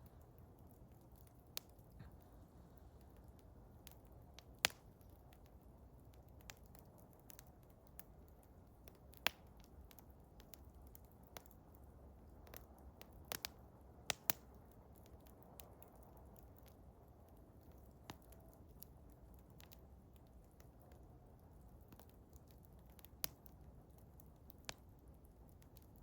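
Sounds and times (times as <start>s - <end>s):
faint low hiss: 0.0s - 26.0s
wood fire crackling and popping: 0.0s - 26.0s.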